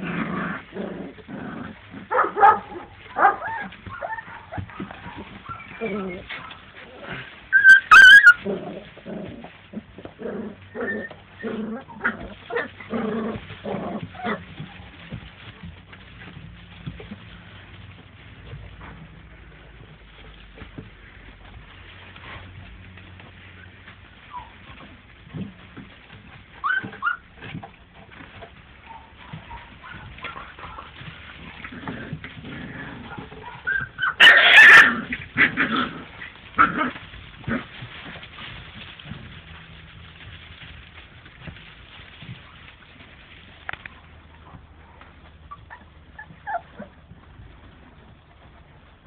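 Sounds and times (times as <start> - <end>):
puppies giving short calls: 0.0 - 19.9, 20.5 - 47.1.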